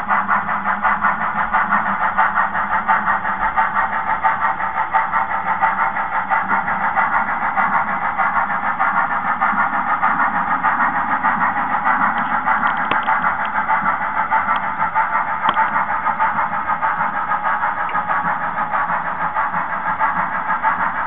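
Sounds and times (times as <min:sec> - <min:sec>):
model steam train pulsing rush: 0:00.0 - 0:21.0.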